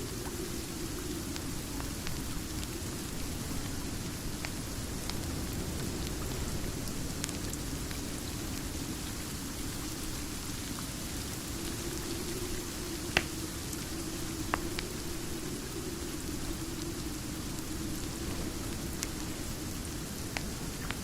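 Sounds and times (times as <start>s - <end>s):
fire crackling and popping: 0.0s - 21.0s
steady rain: 0.0s - 21.0s.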